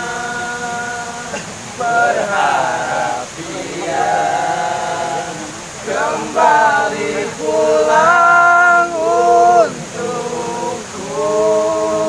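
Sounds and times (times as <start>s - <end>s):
waterfall rushing: 0.0s - 12.0s
young men singing together: 0.0s - 12.0s.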